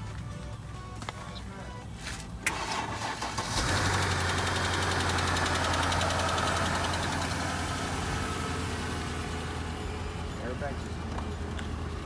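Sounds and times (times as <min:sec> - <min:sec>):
car engine idling: 0:01.4 - 0:12.0.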